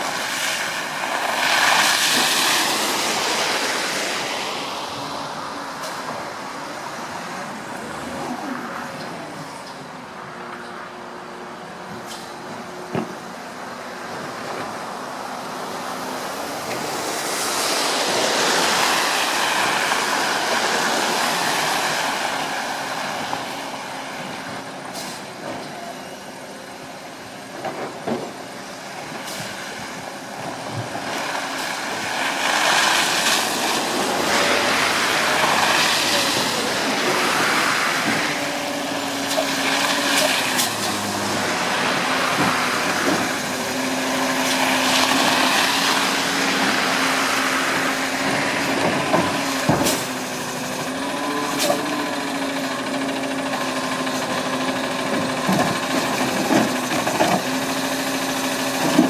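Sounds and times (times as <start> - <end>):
garbage truck engine running: 5.0 - 59.0.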